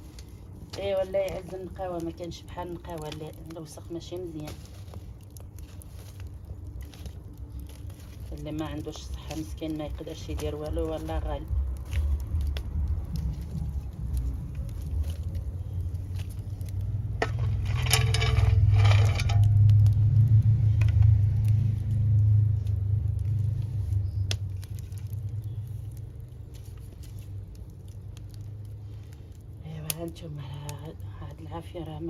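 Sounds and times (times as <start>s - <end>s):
street-cleaning machine engine rumble: 0.0s - 32.0s.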